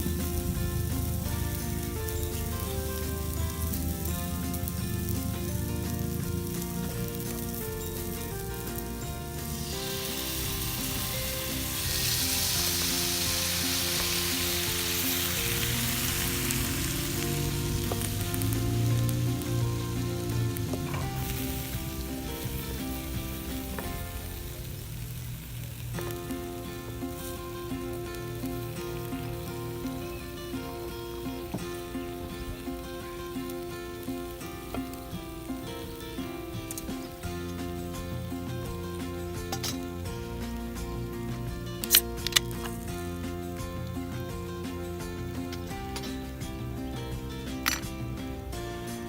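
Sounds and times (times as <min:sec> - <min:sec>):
background music: 0:00.0 - 0:49.0
steak sizzling in frying pan: 0:00.0 - 0:49.0.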